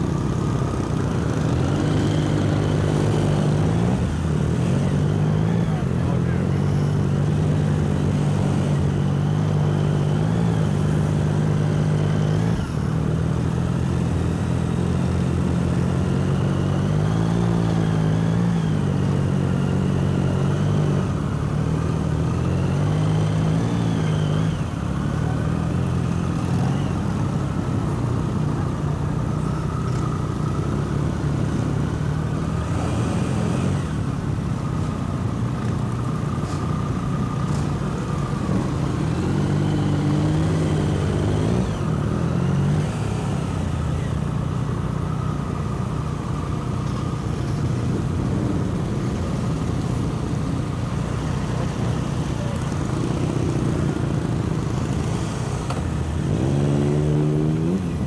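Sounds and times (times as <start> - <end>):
motorcycle engine at low revs: 0.0 - 58.0
other motorcycle engines: 0.0 - 58.0.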